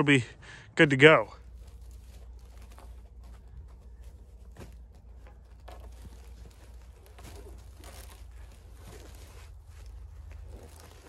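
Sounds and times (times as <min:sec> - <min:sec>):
cloth rustling on snow: 0:01.4 - 0:11.0.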